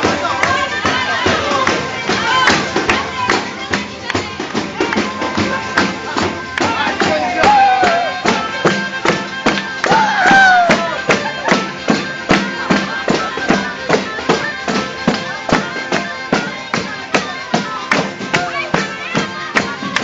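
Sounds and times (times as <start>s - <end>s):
bagpipe folk tune with drones: 0.0s - 20.0s
tambourine beat: 0.0s - 20.0s.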